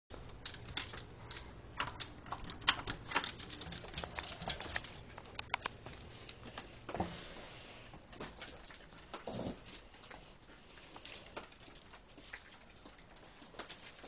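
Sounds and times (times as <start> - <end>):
dog claws clicking on floor: 0.2 - 6.7, 8.1 - 14.0.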